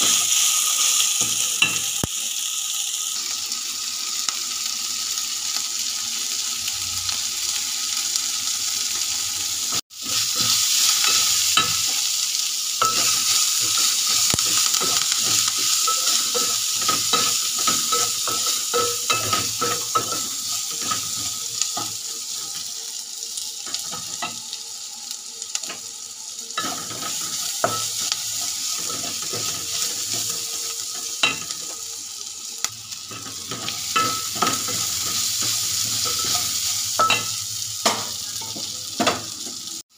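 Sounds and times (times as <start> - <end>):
vegetables sizzling in hot oil: 0.0 - 39.9.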